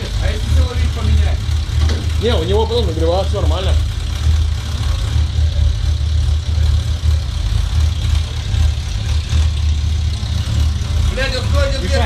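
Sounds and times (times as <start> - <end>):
engine rattle: 0.0 - 12.0
motorcycle engine idling: 0.0 - 12.0.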